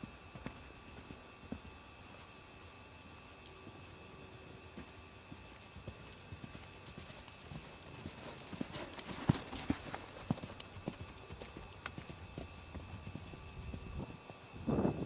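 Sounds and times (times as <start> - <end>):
hoofbeats cantering on sand: 0.0 - 2.4, 3.1 - 15.0.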